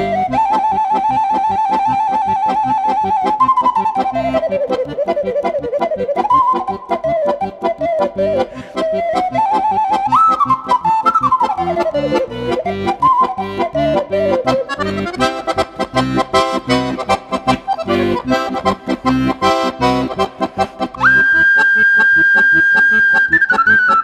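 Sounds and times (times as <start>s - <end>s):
accordion chords: 0.0s - 24.0s
ocarina melody: 0.0s - 24.0s.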